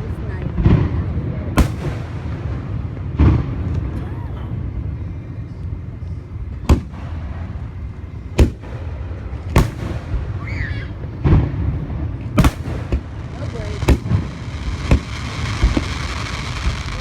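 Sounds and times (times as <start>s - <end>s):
fireworks booming: 0.0s - 17.0s
low background rumble: 0.0s - 17.0s.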